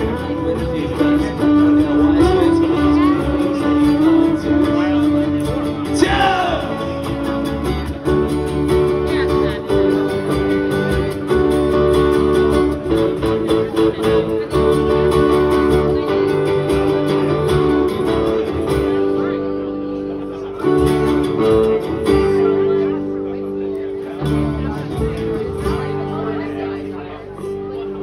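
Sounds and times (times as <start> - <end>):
electric guitar: 0.0 - 28.0
strummed acoustic guitar: 0.0 - 28.0.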